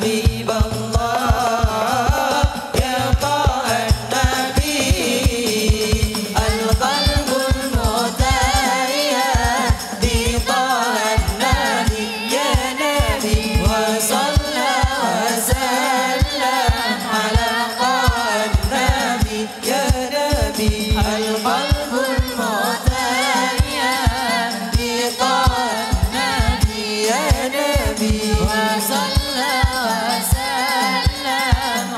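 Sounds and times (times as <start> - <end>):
frame drums beating: 0.0 - 31.9
men singing through microphones: 0.0 - 31.9.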